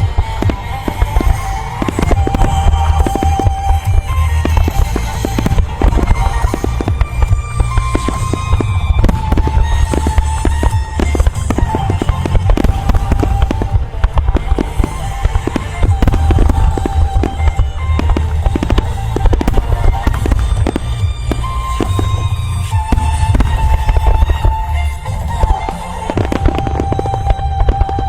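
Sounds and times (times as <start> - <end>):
deep low rumble: 0.0 - 28.0
fireworks shells bursting: 0.0 - 28.0
music with sustained melody: 0.0 - 28.0.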